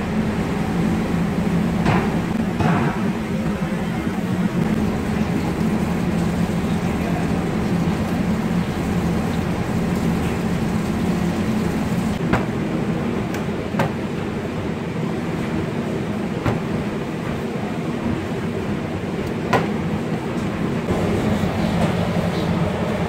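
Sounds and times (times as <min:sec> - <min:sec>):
extractor fan drone: 0:00.0 - 0:23.0.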